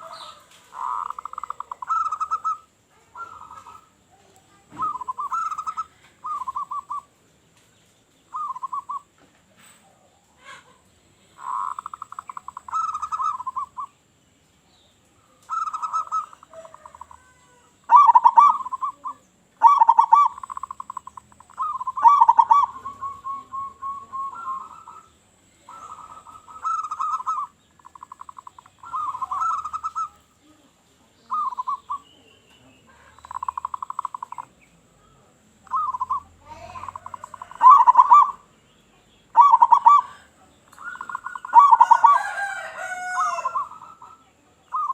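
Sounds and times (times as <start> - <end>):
doves cooing: 0.0 - 7.1, 8.3 - 9.2, 11.4 - 14.0, 15.2 - 30.6, 31.2 - 38.6, 39.2 - 44.9.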